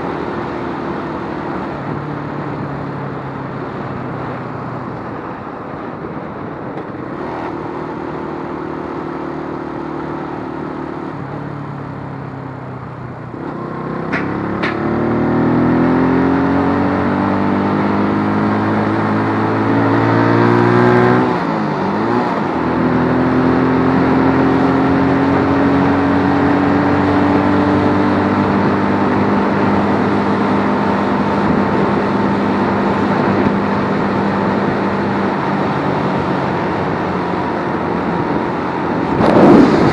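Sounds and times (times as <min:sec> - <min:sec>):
motorcycle engine revving: 0:06.7 - 0:39.9.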